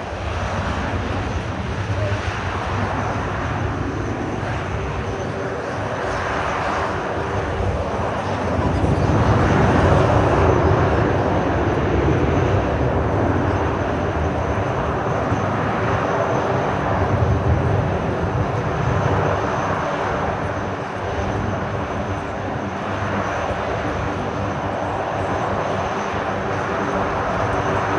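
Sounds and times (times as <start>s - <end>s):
aircraft engine roar flying by: 0.0s - 27.9s.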